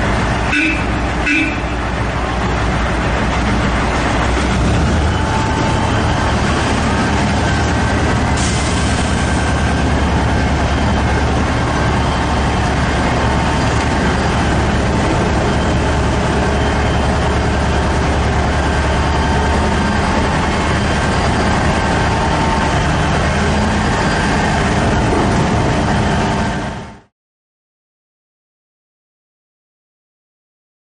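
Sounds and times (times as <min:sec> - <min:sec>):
haul truck engine drone: 0:00.0 - 0:27.1.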